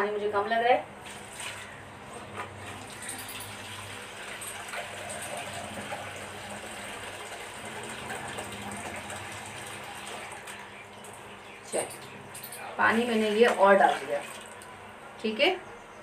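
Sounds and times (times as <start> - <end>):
water running: 1.0 - 14.9.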